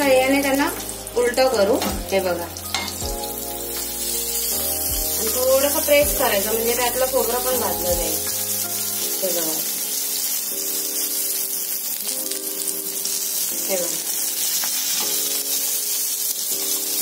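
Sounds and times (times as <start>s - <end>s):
chillies sizzling in oil: 0.0s - 17.0s
soft background music chords: 0.0s - 17.0s.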